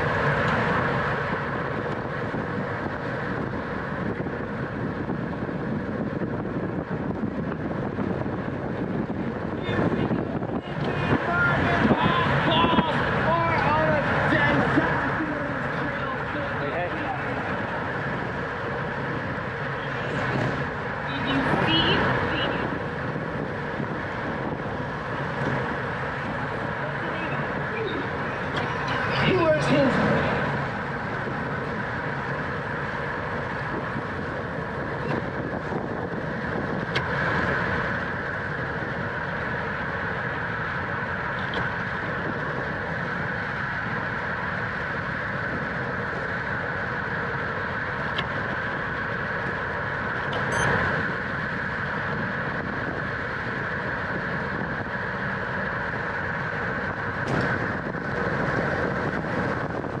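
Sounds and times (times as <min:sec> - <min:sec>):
bicycle tyre and wind rush: 0:00.0 - 1:00.0.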